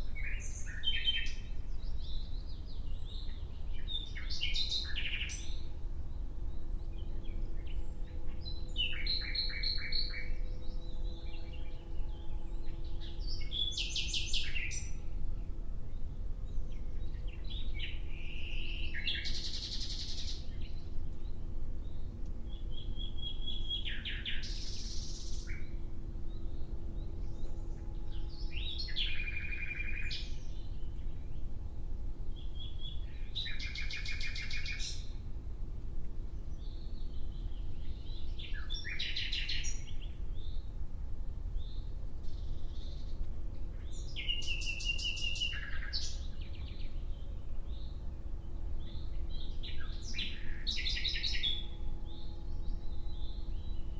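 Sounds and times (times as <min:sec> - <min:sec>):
nightingale singing: 0:00.0 - 0:15.1, 0:16.0 - 0:31.5, 0:32.3 - 0:35.2, 0:36.4 - 0:40.7, 0:41.6 - 0:53.9
faint steady hum: 0:00.0 - 0:53.9.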